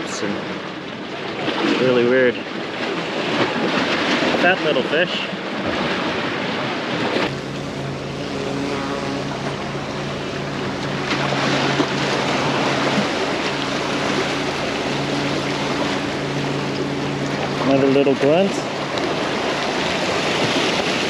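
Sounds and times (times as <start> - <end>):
waves breaking against rocks: 0.0 - 7.6, 9.2 - 21.0
boat engine droning: 0.0 - 21.0.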